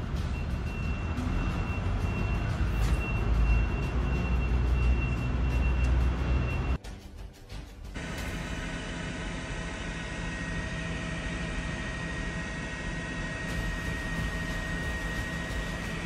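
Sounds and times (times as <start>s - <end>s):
mechanical drone with high whine: 0.0s - 6.8s, 7.8s - 16.0s.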